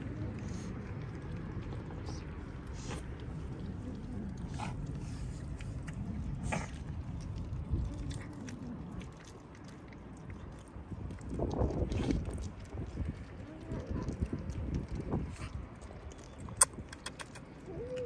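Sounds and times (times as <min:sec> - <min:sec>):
kitten chewing food: 0:00.0 - 0:18.0
low rumble: 0:00.0 - 0:18.0.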